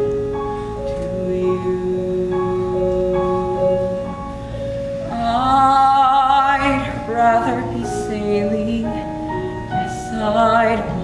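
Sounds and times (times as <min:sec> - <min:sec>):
person singing with vibrato: 0:01.0 - 0:11.0.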